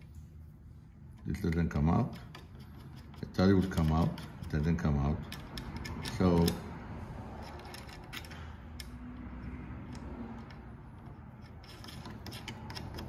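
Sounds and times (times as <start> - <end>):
light metal clicks and taps: 1.2 - 6.7, 7.5 - 13.0.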